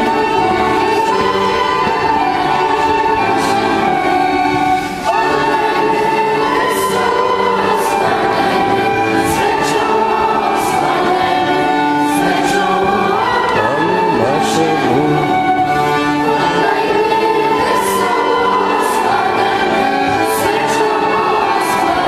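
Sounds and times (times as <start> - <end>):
children's choir singing: 0.0 - 22.0
instrumental accompaniment: 0.0 - 22.0.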